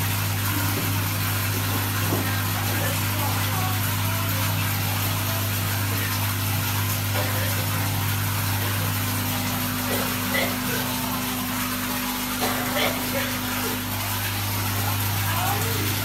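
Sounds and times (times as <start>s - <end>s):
electric pump humming: 0.0s - 16.0s
water splashing and bubbling: 0.0s - 16.0s.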